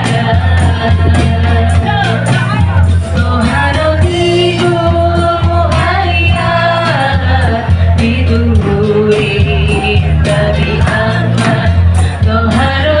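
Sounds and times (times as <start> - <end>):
women singing devotional song: 0.0 - 2.3, 3.2 - 13.0
electronic keyboard with pulsing bass: 0.0 - 13.0.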